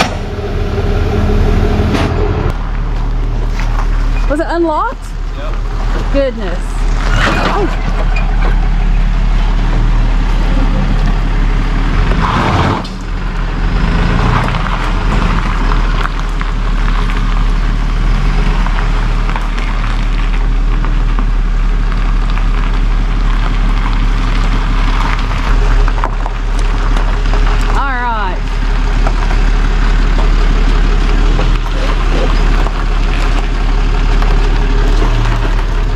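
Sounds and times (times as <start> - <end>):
truck engine idling: 0.0 - 35.9.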